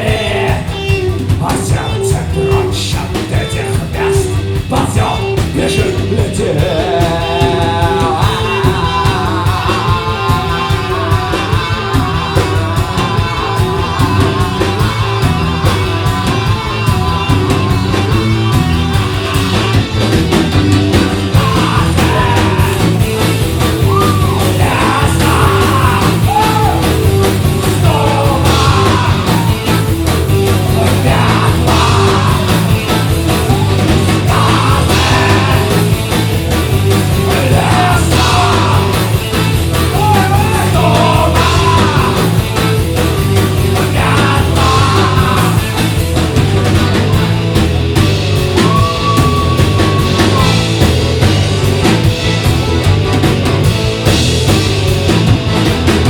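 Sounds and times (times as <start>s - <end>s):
rock band playing: 0.0s - 56.0s
sliding lead guitar line: 0.0s - 56.0s.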